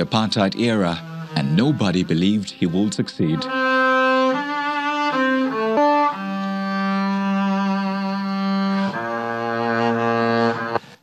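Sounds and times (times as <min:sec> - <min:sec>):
bowed double bass: 0:00.0 - 0:10.8.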